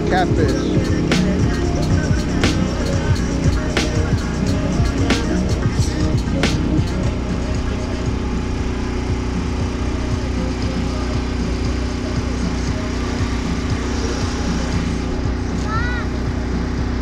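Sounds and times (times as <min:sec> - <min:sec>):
low steady drone: 0:00.0 - 0:17.0.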